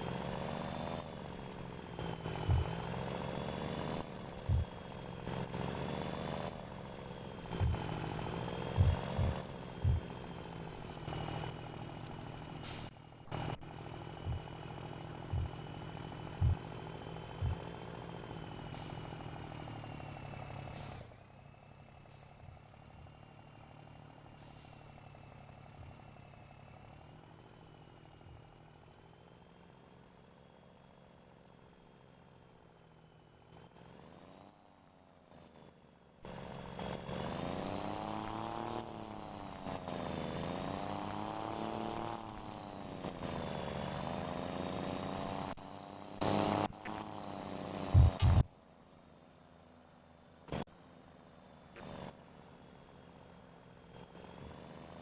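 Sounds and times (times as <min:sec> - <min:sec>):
truck engine revving: 0:00.0 - 0:28.8, 0:35.3 - 0:48.5, 0:51.8 - 0:55.0.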